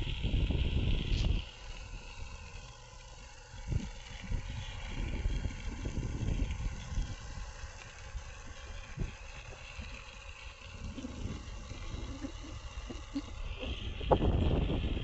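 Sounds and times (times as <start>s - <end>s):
wind on microphone: 0.0s - 1.5s, 3.6s - 10.0s, 10.6s - 15.0s.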